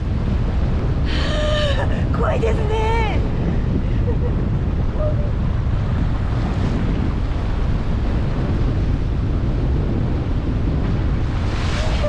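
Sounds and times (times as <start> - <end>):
sea waves against jetty: 0.0 - 12.0
wind buffeting microphone: 0.0 - 12.0.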